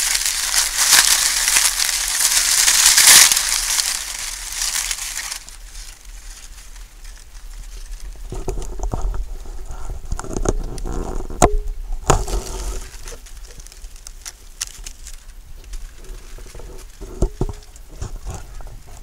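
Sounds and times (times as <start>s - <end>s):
dry corn leaves rustling: 0.0s - 19.0s.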